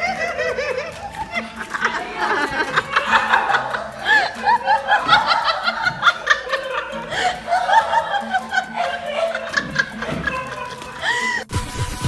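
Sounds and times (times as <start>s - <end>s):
high-pitched laughter: 0.0s - 11.5s
background music: 0.0s - 12.0s.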